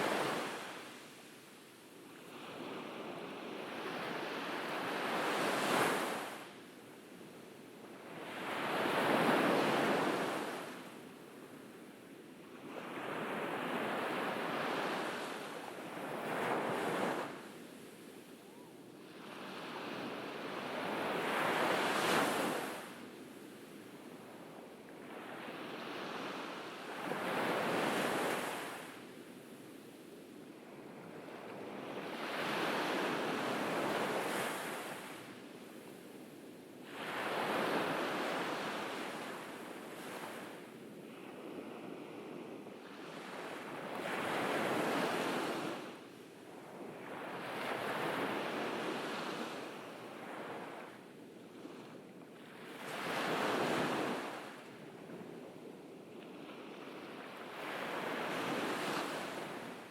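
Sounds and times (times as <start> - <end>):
ocean waves breaking on beach: 0.0 - 1.6, 2.2 - 6.6, 7.9 - 10.9, 12.6 - 23.1, 30.7 - 59.9.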